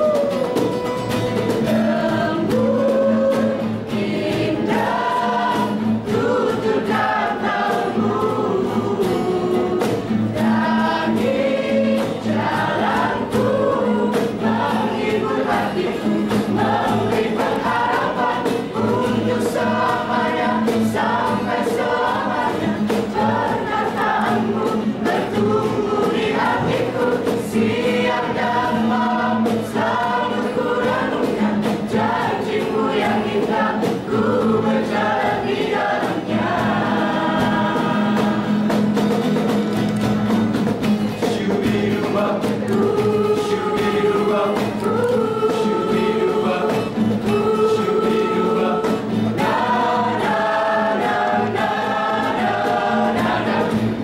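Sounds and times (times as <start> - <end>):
group singing a church song: 0.0 - 54.0.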